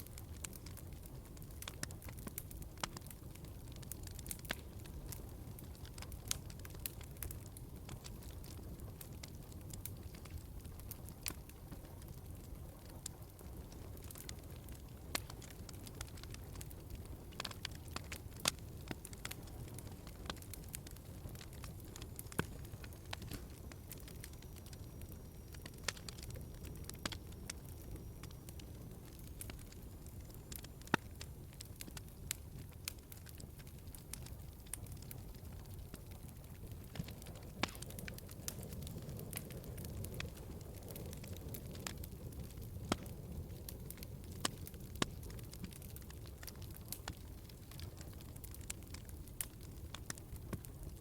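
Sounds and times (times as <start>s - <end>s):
fireplace fire crackling: 0.0s - 51.0s
loud fire pops: 0.0s - 51.0s.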